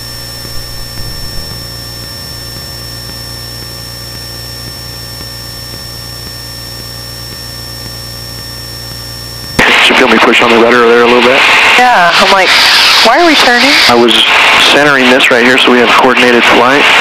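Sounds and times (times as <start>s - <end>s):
airplane engine droning: 0.0s - 17.0s
thin high whine: 0.0s - 17.0s.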